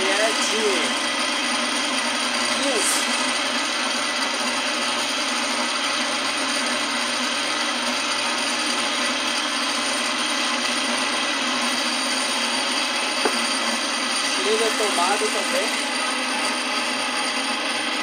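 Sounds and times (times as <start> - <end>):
spin dryer motor whirring: 0.0 - 18.0.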